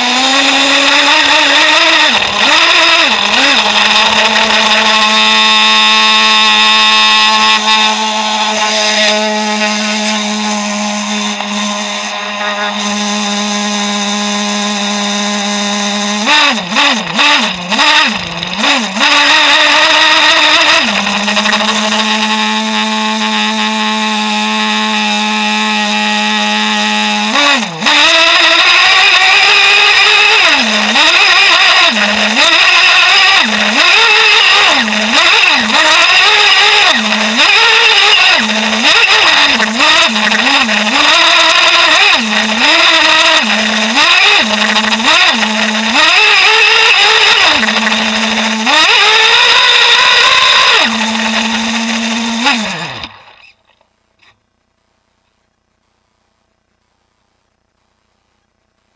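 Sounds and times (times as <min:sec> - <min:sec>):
rc truck engine revving: 0:00.0 - 0:54.4.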